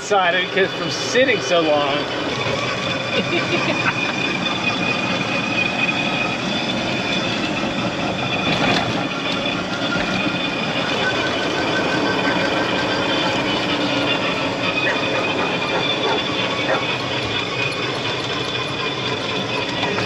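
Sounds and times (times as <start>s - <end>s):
electric golf cart driving: 0.0s - 20.0s.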